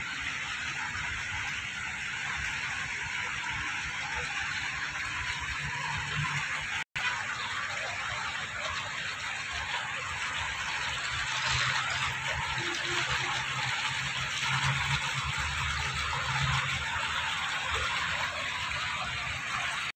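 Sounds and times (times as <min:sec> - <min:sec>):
rushing water: 0:00.0 - 0:19.9.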